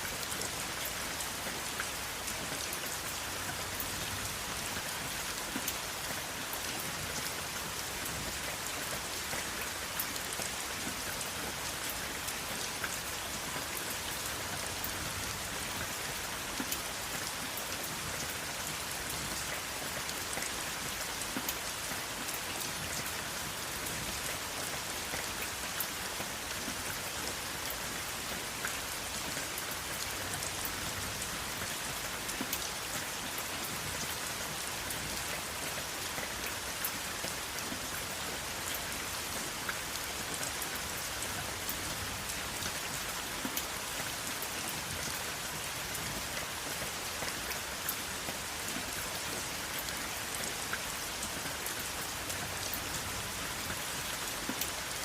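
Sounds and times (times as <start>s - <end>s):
steady rain hiss: 0.0s - 55.0s
raindrops pattering on a surface: 0.1s - 55.0s.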